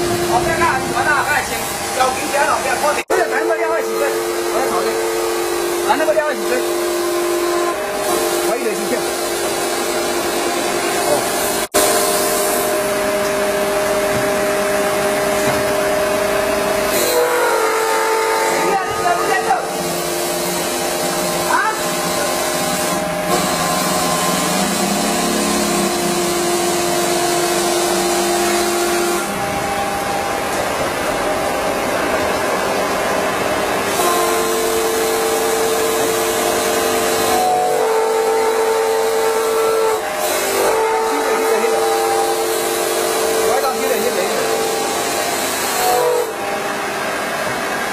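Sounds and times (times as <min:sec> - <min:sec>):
stone polishing machine running: 0:00.0 - 0:47.9.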